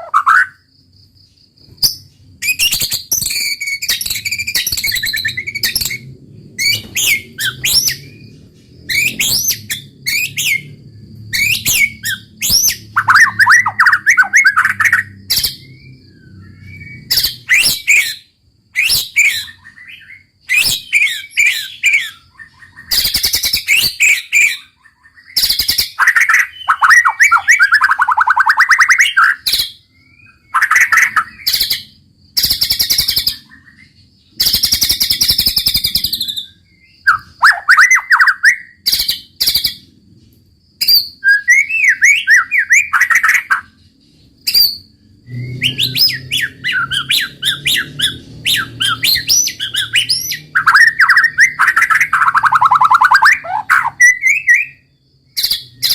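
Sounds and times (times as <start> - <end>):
bird singing trills and whistles: 0.0 - 0.7, 1.6 - 39.9, 40.8 - 55.9.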